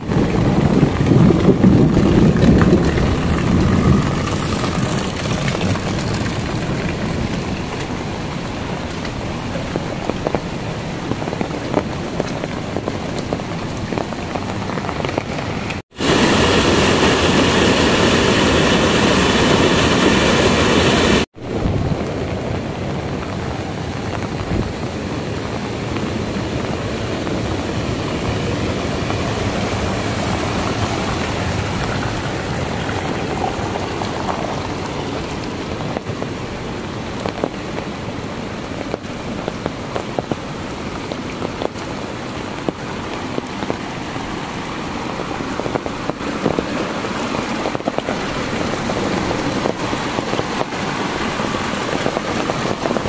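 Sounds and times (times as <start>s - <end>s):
heavy rain: 0.0s - 53.0s
water rushing down a ditch: 0.0s - 53.0s.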